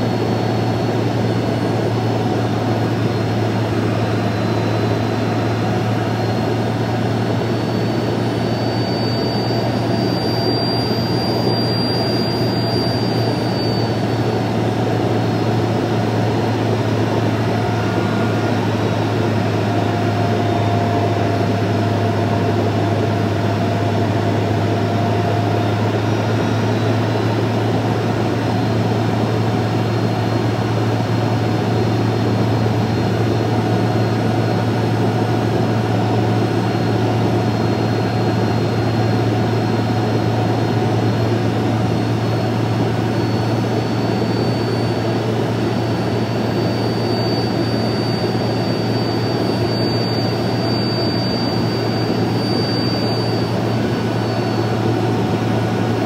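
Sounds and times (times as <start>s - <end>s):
faint high whine: 0.0s - 56.0s
jet cabin drone: 0.0s - 56.0s.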